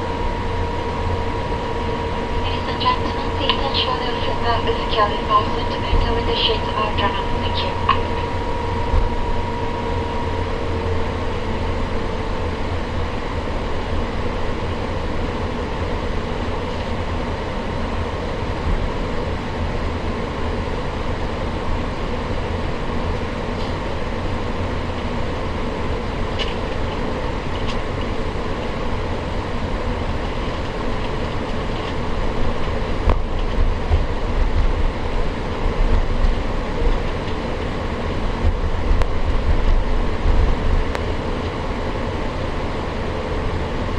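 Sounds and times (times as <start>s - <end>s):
low rolling rumble: 0.0s - 14.7s, 17.9s - 43.8s
aircraft engine hum: 0.0s - 43.9s.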